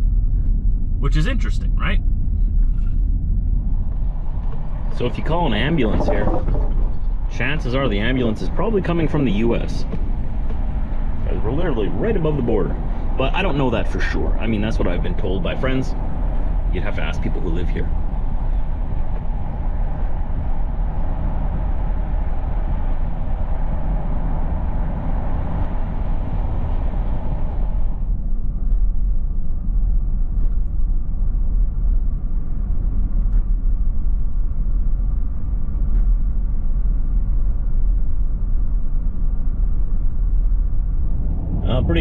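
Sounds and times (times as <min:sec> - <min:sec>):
road and wind rushing hiss: 0:00.0 - 0:42.0
truck cab low rumble: 0:00.0 - 0:42.0.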